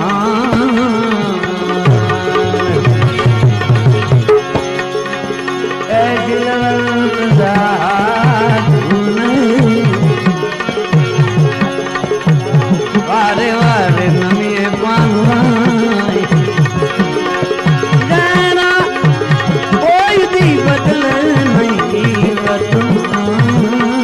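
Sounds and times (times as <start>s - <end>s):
tabla rhythm: 0.0s - 24.0s.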